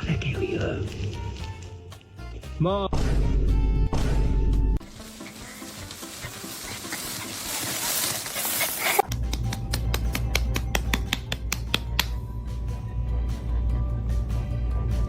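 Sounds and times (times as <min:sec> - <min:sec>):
background music with deep bass: 0:00.0 - 0:07.8, 0:09.1 - 0:15.0.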